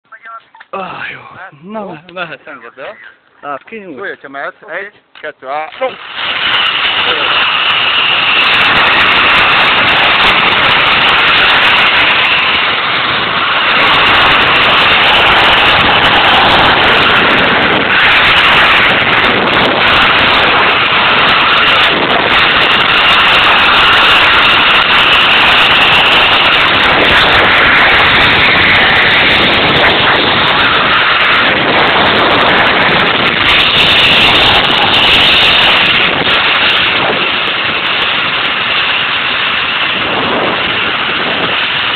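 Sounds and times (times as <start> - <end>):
zip line trolley on cable: 5.7 - 41.9
wind rushing on microphone: 5.8 - 41.9.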